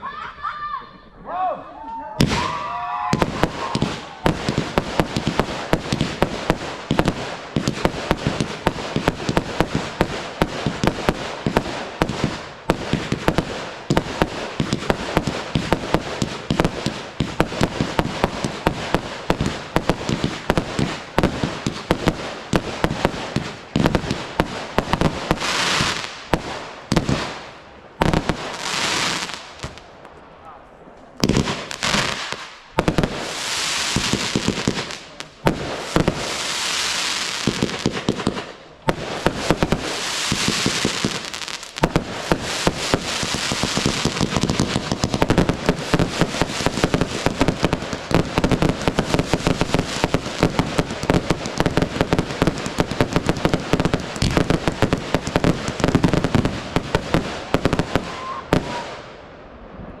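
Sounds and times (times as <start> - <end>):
fireworks hissing: 2.2 - 29.8, 31.2 - 59.1
fireworks bangs: 2.2 - 60.0.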